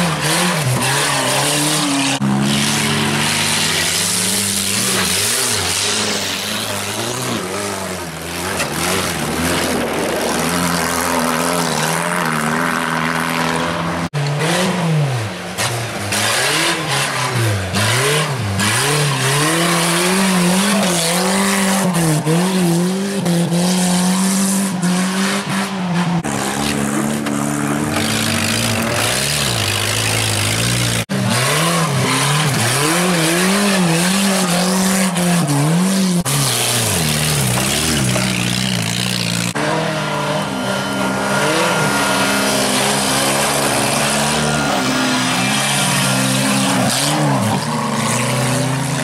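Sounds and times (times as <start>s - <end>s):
race car engines revving: 0.0s - 49.0s.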